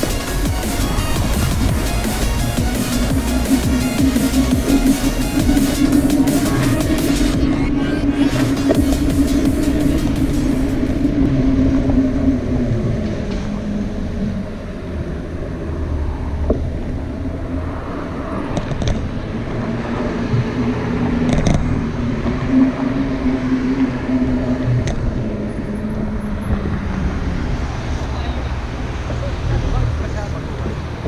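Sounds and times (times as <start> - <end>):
low road rumble: 0.0 - 31.0
vehicle engine hum: 0.0 - 31.0.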